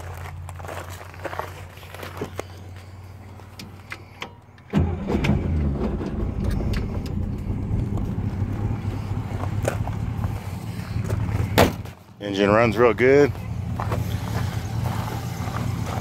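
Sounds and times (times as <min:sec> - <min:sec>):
car engine starting and idling: 0:02.1 - 0:16.0.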